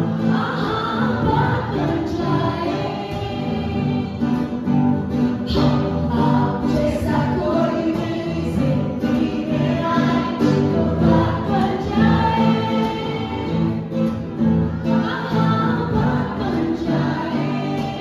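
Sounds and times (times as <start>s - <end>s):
acoustic guitar strumming: 0.0s - 18.0s
woman singing into microphone: 0.0s - 18.0s.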